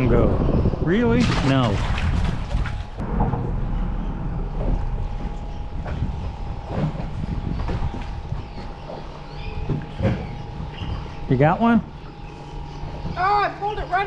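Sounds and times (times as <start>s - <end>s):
boat motor rumble with whine: 0.0s - 14.0s.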